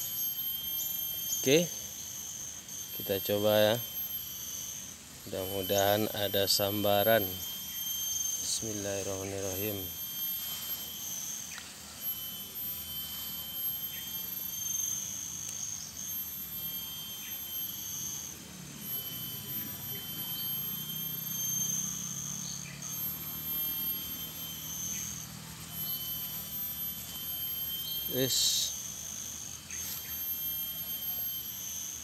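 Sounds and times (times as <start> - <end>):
faint low hum: 0.0 - 32.0
insects calling: 0.0 - 32.0.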